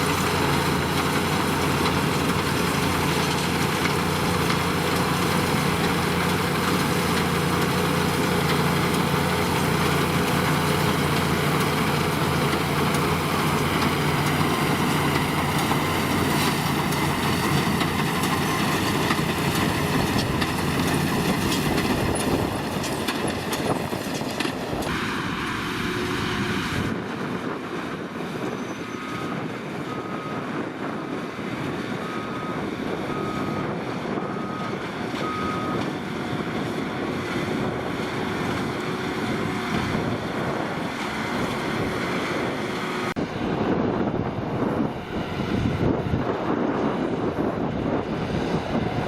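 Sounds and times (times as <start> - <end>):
tractors and hay balers running: 0.0 - 49.0.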